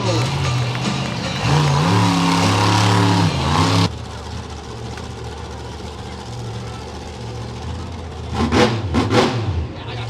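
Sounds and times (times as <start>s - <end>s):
low engine idle: 0.0s - 8.4s
truck engine at high revs: 0.0s - 10.0s.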